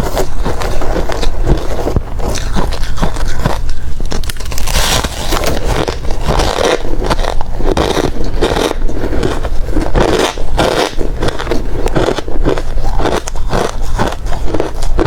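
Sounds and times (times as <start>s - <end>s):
ice being crunched and chewed: 0.0s - 15.0s.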